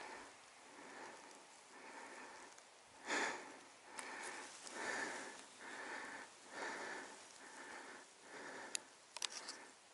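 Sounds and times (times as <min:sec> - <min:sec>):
person breathing hard: 0:00.0 - 0:09.9.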